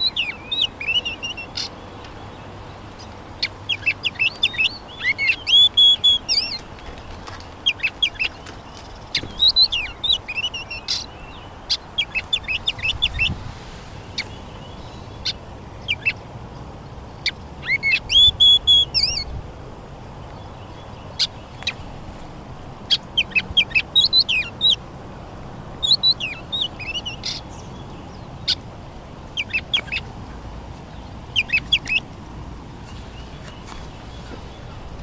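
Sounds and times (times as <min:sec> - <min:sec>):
faint background hiss: 0:00.0 - 0:35.0
small birds chirping: 0:00.0 - 0:35.0.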